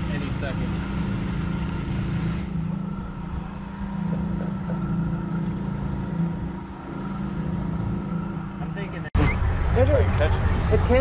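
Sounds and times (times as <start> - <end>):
outboard engine droning: 0.0 - 11.0.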